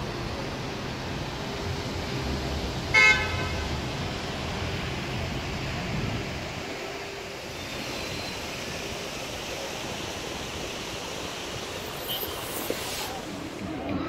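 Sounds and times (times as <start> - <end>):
outdoor city ambience hiss: 0.0 - 14.0.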